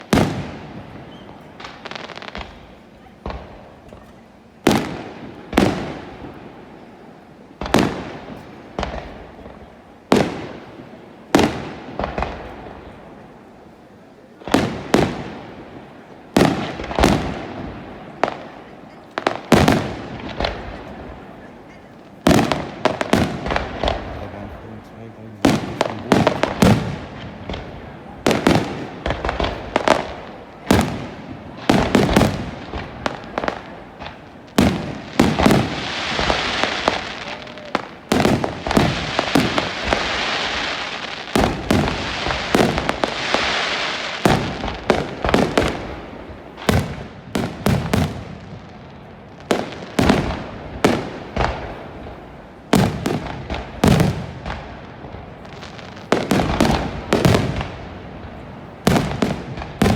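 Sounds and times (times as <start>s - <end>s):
firework crackling hiss: 0.0s - 59.9s.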